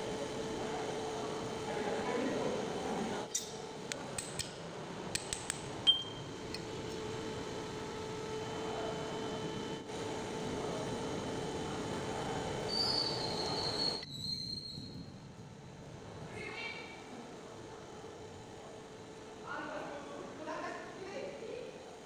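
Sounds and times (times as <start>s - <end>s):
steady workshop hum: 0.0s - 22.0s.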